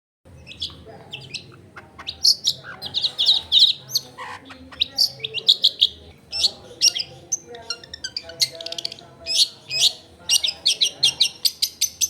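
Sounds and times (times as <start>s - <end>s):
shrike singing chirps and whistles: 0.4s - 12.0s.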